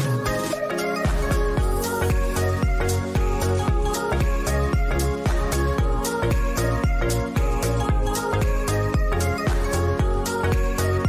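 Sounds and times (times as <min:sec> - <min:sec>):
music with synth chords and beat: 0:00.0 - 0:11.0.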